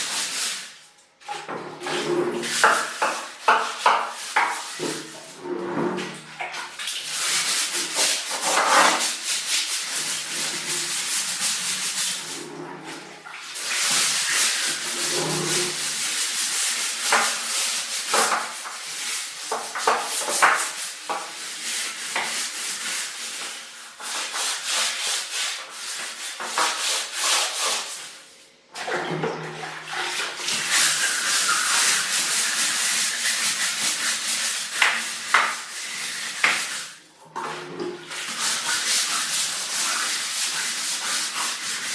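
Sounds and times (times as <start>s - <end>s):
brush scrubbing surface: 1.3s - 28.2s, 28.8s - 37.0s, 37.6s - 41.9s.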